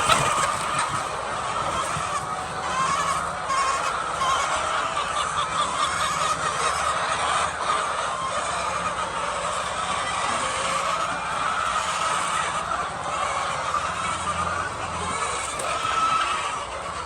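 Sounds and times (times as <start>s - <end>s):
chickens clucking and squawking: 0.0s - 17.0s.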